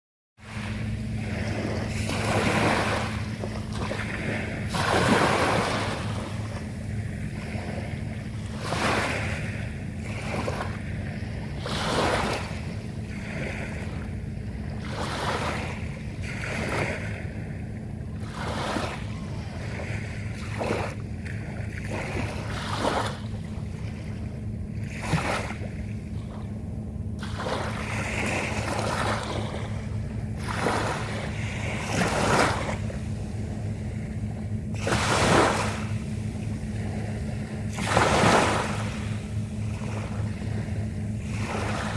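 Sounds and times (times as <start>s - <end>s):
small waves breaking on shore: 0.4s - 26.5s, 27.2s - 41.9s
steady low hum: 0.4s - 41.9s.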